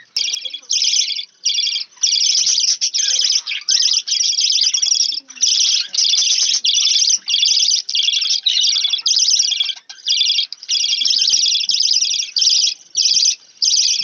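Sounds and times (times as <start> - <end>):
budgerigars chattering: 0.0 - 14.0.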